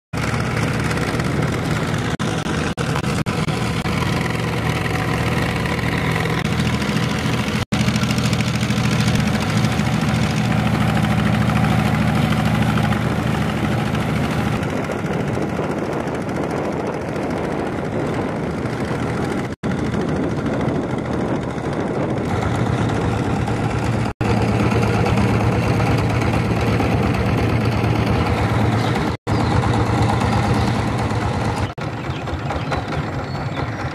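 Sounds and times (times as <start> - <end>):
motorboat engine running: 0.1 - 33.9.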